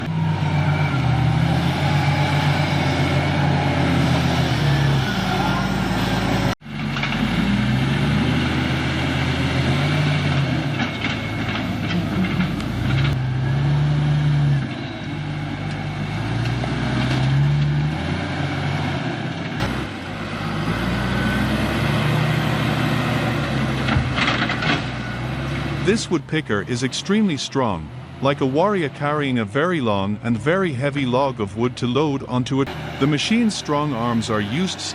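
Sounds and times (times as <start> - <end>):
diesel engine revving under load: 0.0 - 34.9.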